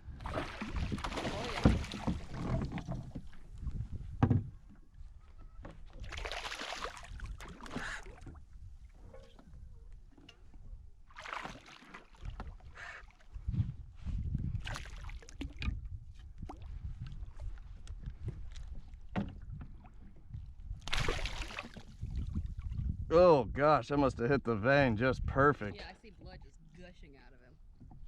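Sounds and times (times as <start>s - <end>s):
water splashing around kayak: 0.0s - 23.0s.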